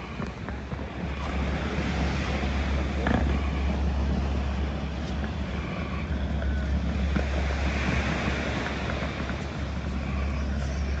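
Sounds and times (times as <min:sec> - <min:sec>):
outdoor background noise: 0:00.0 - 0:11.0
wind rumble on microphone: 0:00.0 - 0:11.0.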